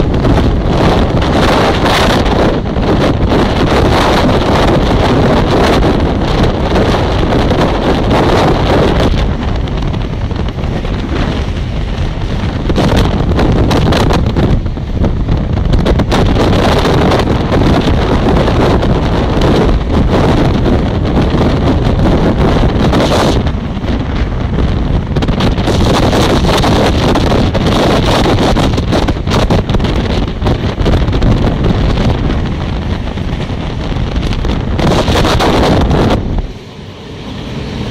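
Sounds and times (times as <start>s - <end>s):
train running noise: 0.0s - 37.9s
wind buffeting microphone: 0.0s - 37.9s.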